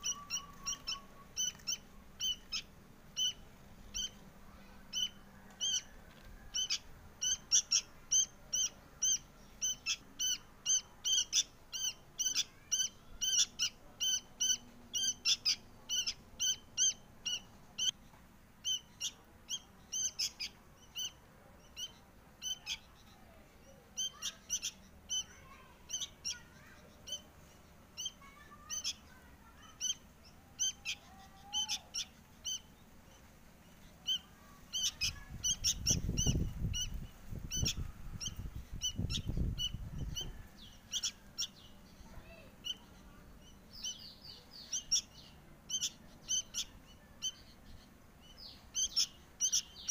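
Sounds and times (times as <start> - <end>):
fledgling bird begging calls: 0.0 - 18.0, 18.6 - 27.3, 28.0 - 32.8, 34.0 - 49.9.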